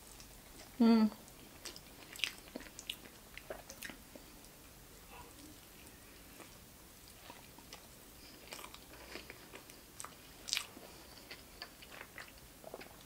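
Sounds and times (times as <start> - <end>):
person chewing food: 0.1 - 13.0.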